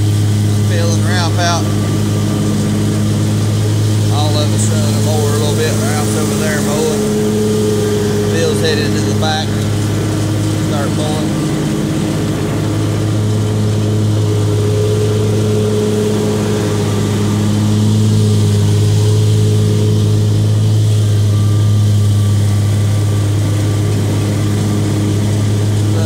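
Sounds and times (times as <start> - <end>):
riding mower engine drone: 0.0 - 26.0.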